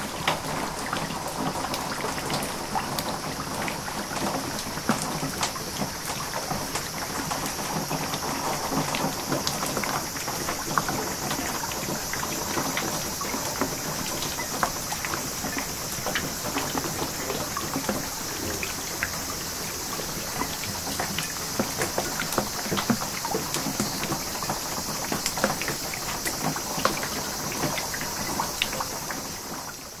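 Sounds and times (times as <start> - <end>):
heavy rain pouring: 0.0 - 30.0
rain drops ticking: 0.0 - 30.0
runoff streaming over gravel: 0.0 - 30.0.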